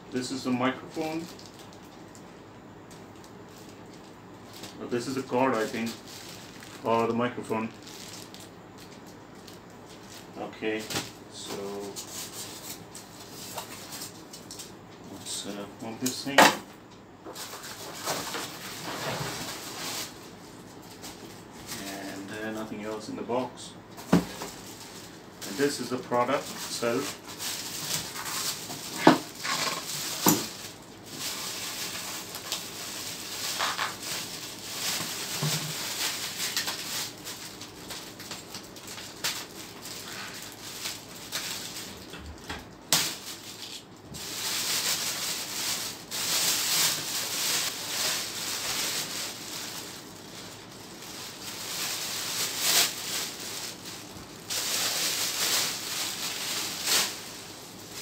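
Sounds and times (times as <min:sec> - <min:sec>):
plastic bag crinkling: 0:00.2 - 0:02.3, 0:02.9 - 0:10.9, 0:17.3 - 0:22.7, 0:24.0 - 0:58.0.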